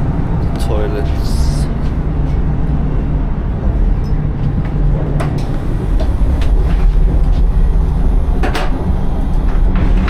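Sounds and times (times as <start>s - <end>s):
train rumble inside carriage: 0.0s - 10.0s.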